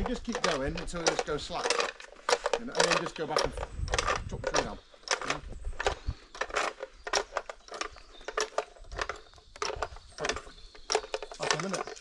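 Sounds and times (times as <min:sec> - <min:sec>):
winch ratcheting clicks and clunks: 0:00.0 - 0:12.0.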